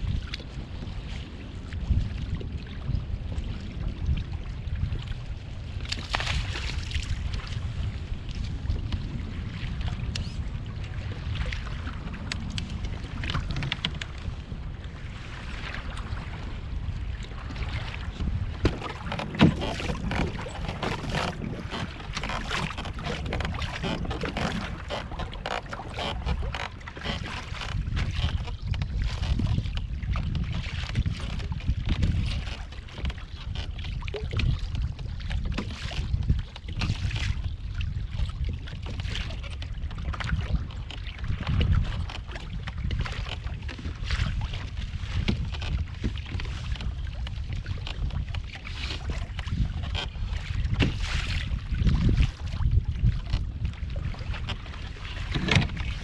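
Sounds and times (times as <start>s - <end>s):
water slapping against kayak hull: 0.0s - 56.0s
wind buffeting microphone: 0.0s - 56.0s.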